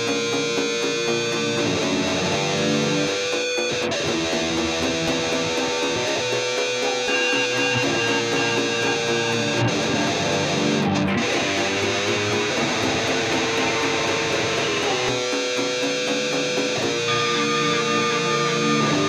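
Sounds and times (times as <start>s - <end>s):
guitar-led music: 0.0s - 19.0s.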